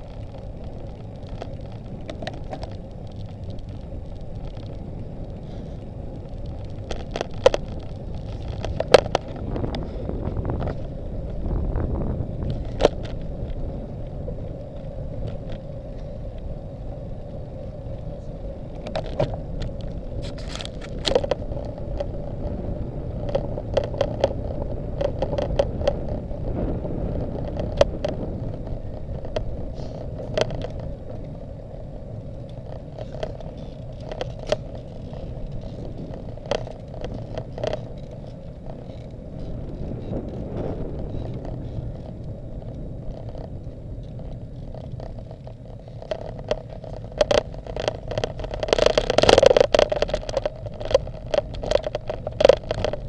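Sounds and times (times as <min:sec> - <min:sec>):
bike clicks and rattles: 0:00.0 - 0:53.0
wind and tyre rumble: 0:00.0 - 0:53.0.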